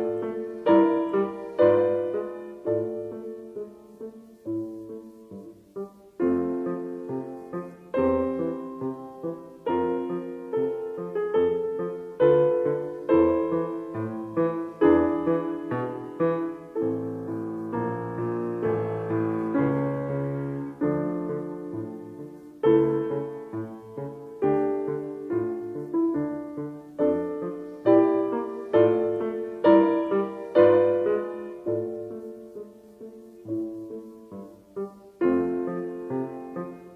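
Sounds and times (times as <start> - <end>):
piano music: 0.0 - 36.9.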